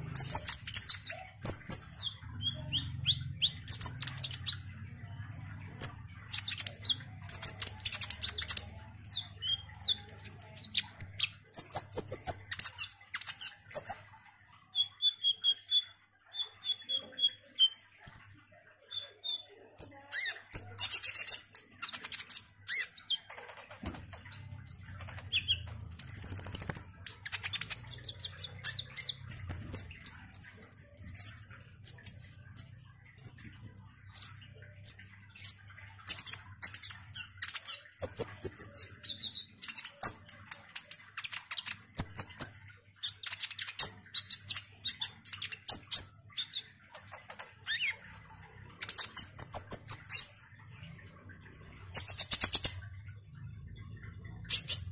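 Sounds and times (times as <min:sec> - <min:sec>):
sunbird chirping and trilling: 0:00.0 - 0:54.9.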